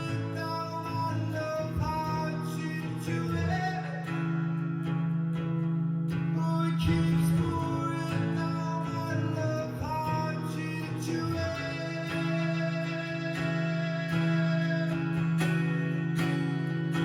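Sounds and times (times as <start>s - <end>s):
solo guitar playing: 0.0s - 17.0s.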